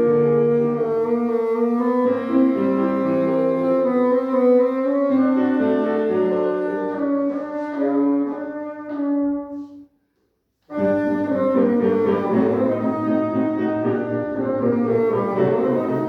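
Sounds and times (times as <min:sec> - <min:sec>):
bassoon playing: 0:00.0 - 0:09.8, 0:10.7 - 0:16.0
piano accompaniment: 0:00.0 - 0:09.9, 0:10.7 - 0:16.0.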